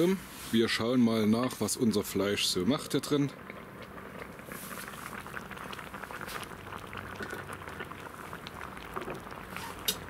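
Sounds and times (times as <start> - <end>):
broth bubbling in a pot: 0.0 - 10.0.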